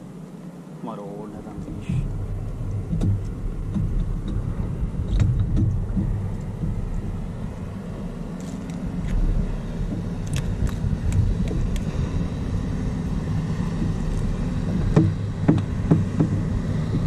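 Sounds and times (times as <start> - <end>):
wind and sea rumble: 0.0 - 17.0.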